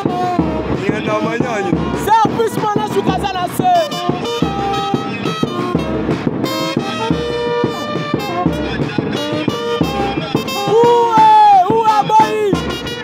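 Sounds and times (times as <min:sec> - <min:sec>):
brass horn music: 0:00.0 - 0:13.0
percussive beat: 0:00.0 - 0:13.0.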